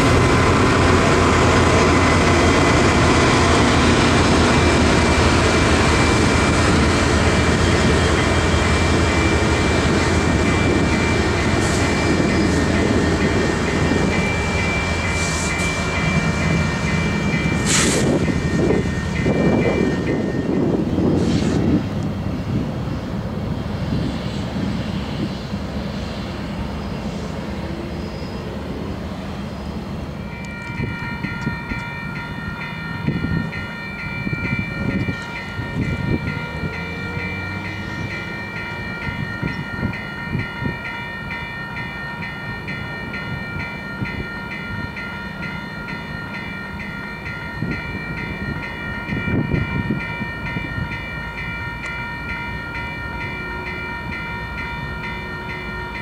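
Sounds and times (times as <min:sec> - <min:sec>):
crossing warning bell ringing: 0:00.0 - 0:21.2, 0:29.8 - 0:56.0
freight train rumbling past: 0:00.0 - 0:56.0.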